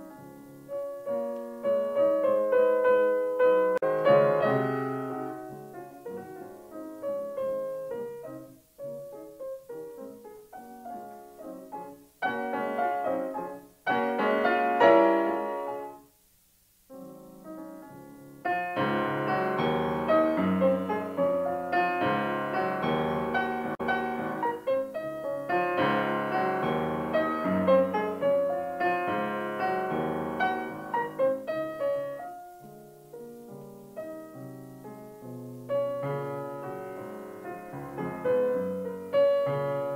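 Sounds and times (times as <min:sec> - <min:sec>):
solo piano music: 0:00.0 - 0:16.2, 0:16.9 - 0:39.9.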